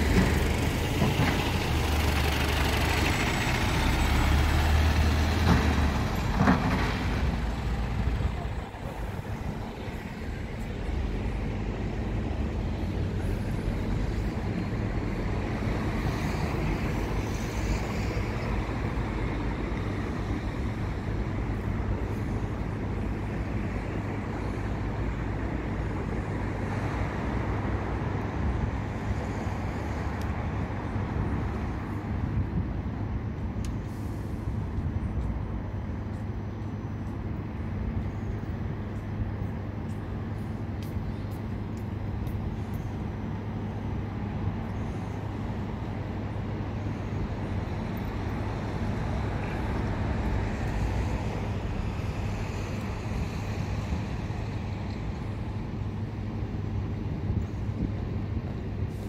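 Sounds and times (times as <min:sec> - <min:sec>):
bus engines humming: 0:00.0 - 0:59.0
road traffic noise: 0:00.0 - 0:59.0.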